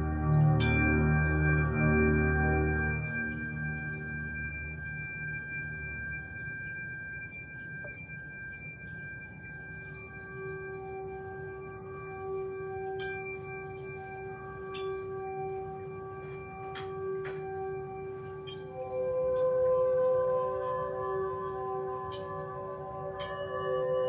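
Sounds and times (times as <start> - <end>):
singing bowls ringing: 0.0 - 24.0.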